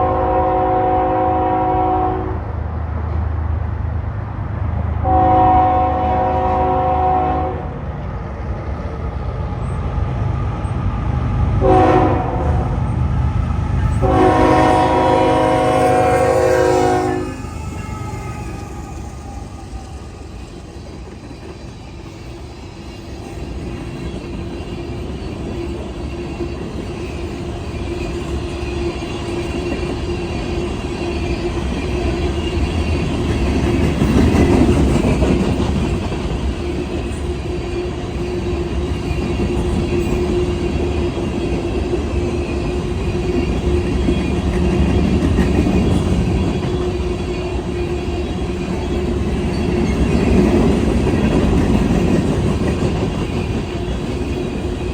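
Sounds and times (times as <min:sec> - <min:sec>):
train rolling past: 0:00.0 - 0:54.9.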